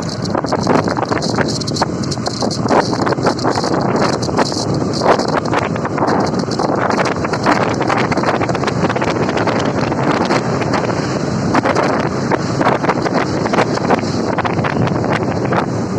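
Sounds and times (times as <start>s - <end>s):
motorcycle engine running: 0.0s - 15.9s
wind buffeting microphone: 0.0s - 15.9s.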